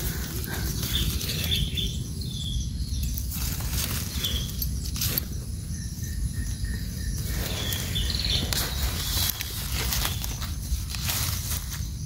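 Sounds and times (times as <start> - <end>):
rustling through undergrowth: 0.0 - 12.0.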